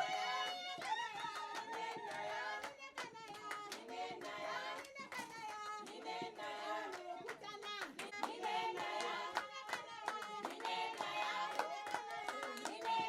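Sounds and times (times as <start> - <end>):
group singing: 0.0 - 13.0
hand clapping: 0.4 - 13.0.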